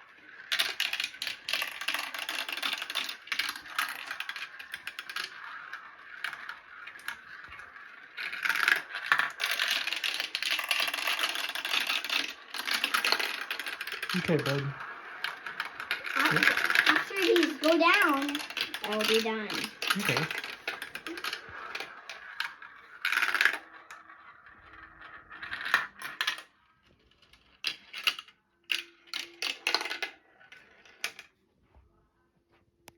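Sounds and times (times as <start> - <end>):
marbles rattling down a marble run: 0.0 - 31.3.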